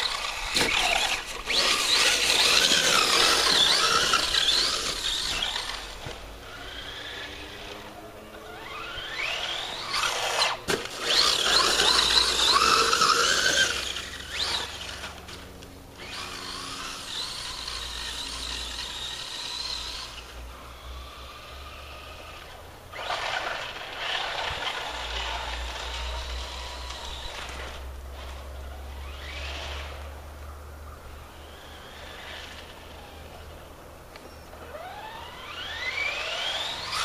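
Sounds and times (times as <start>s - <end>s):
electric motor whining: 0.0s - 30.5s, 31.2s - 37.0s.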